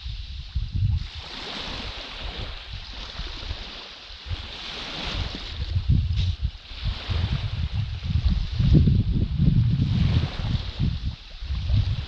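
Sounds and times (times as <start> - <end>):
small waves washing onto sand: 0.0 - 12.0
wind buffeting microphone: 0.0 - 12.0.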